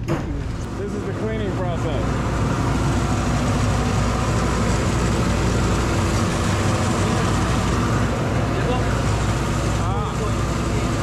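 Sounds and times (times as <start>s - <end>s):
dense rushing noise: 0.0s - 11.0s
mill machinery droning: 0.0s - 11.0s.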